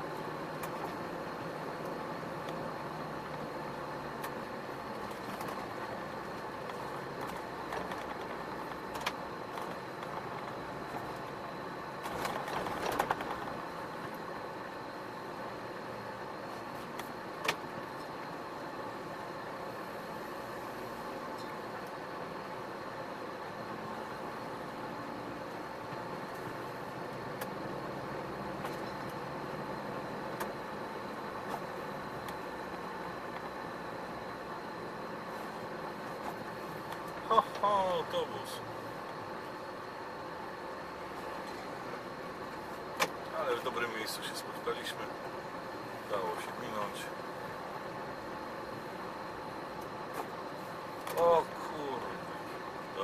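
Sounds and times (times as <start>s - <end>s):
road noise: 0.0s - 53.0s
truck engine driving: 0.0s - 53.0s.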